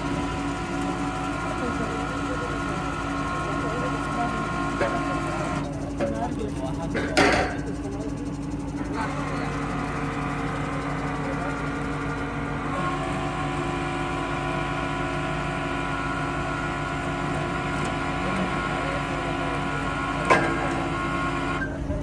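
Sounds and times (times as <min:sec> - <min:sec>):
drilling rig engine running: 0:00.0 - 0:22.0.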